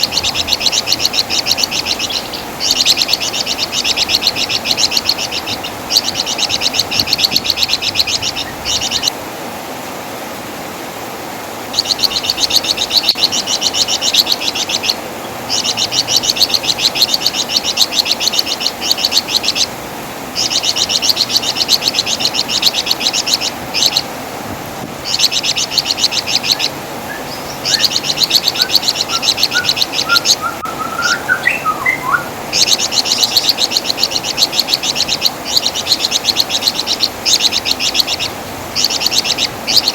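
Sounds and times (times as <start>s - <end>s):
faint bird chirps: 0.0s - 9.1s, 11.8s - 19.7s, 20.4s - 24.0s, 25.1s - 39.9s
songbird chattering trills: 0.0s - 9.2s, 11.7s - 19.8s, 20.4s - 24.1s, 25.0s - 39.9s.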